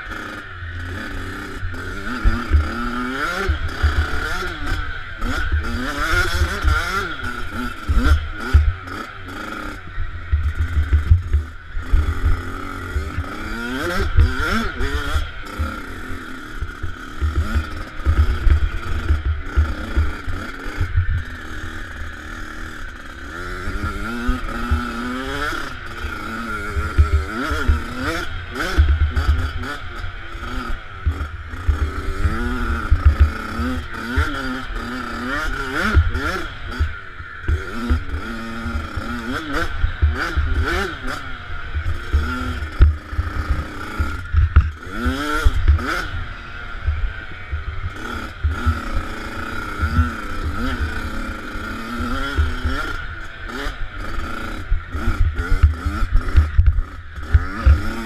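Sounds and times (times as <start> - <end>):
motorbike engine revving: 0.0 - 58.0.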